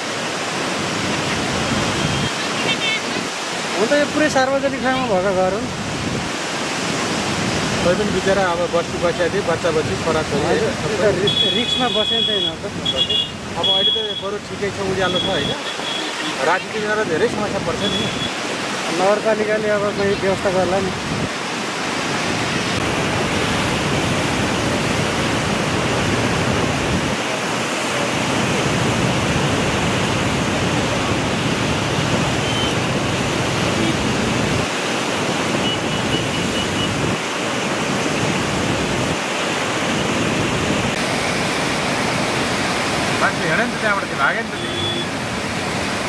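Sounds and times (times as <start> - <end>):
floodwater rushing: 0.0 - 46.0.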